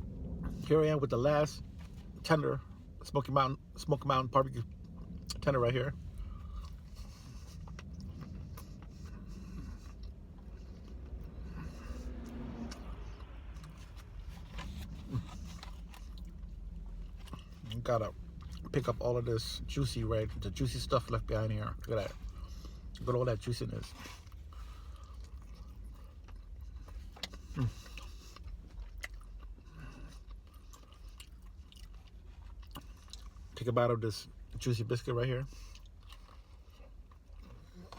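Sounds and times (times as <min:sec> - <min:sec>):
low steady hum: 0:00.0 - 0:37.9
faint chewing: 0:04.6 - 0:37.9.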